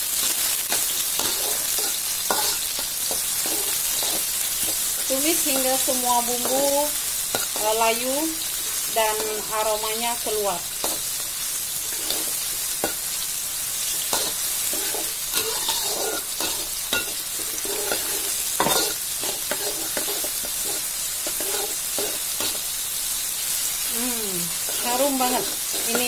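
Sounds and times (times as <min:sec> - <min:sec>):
vegetables sizzling in hot oil: 0:00.0 - 0:26.0
metal spatula scraping wok: 0:00.2 - 0:11.2, 0:11.8 - 0:13.2, 0:14.0 - 0:22.8, 0:24.6 - 0:26.0.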